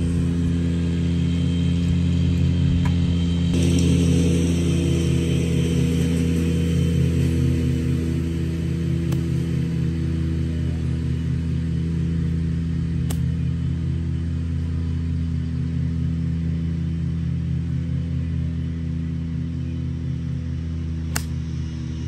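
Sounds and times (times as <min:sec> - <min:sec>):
golf cart motor hum: 0:00.0 - 0:22.0.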